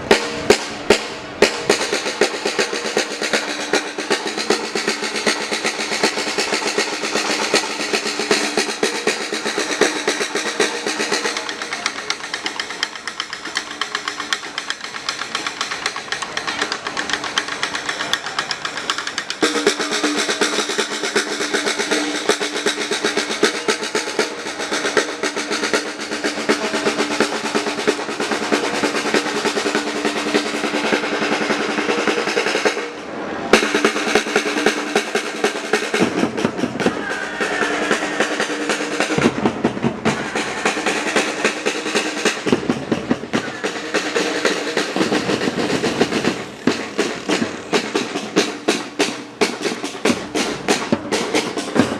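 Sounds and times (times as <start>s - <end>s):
snare drums rolling: 0.0s - 51.9s.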